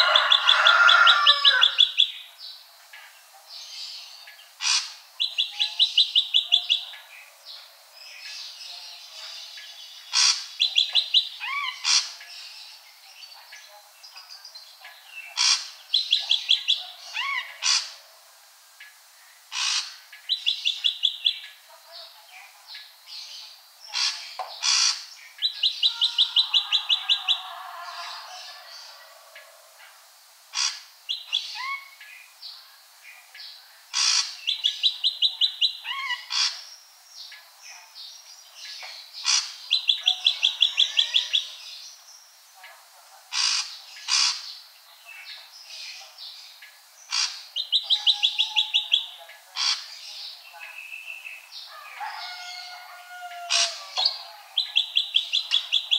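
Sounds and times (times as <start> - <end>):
bird singing sharp calls: 0.0 - 2.3, 3.7 - 7.0, 8.1 - 18.0, 19.5 - 29.6, 30.5 - 32.4, 33.9 - 42.3, 43.3 - 55.9.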